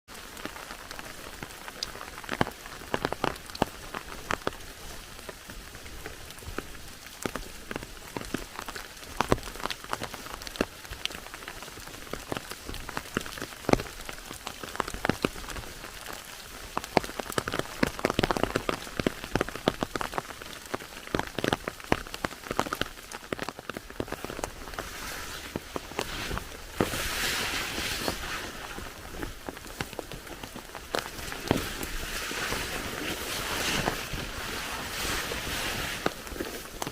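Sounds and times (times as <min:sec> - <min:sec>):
rain hissing: 0:00.1 - 0:36.9
raindrops ticking on hard surface: 0:00.1 - 0:36.9.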